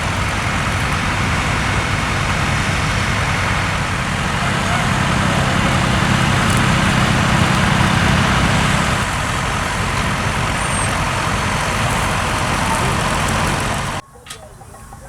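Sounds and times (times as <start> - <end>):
broad rushing noise: 0.0 - 14.0
tractor engine running: 0.0 - 15.0.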